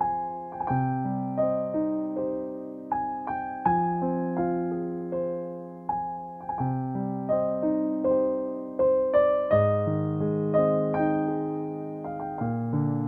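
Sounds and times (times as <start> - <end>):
slow gentle piano: 0.0 - 13.0.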